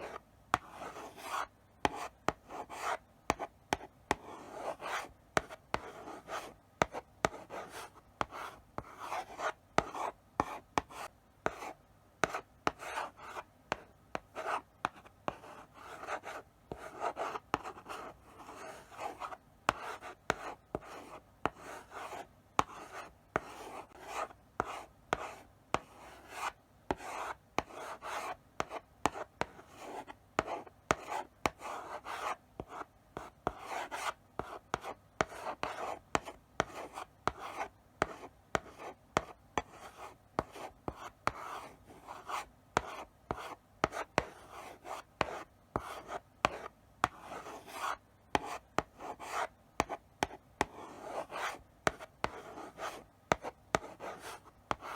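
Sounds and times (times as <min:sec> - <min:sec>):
chalk scratching on blackboard: 0:00.0 - 0:13.8, 0:14.4 - 0:54.9
chalk tapping on board: 0:00.0 - 0:54.9.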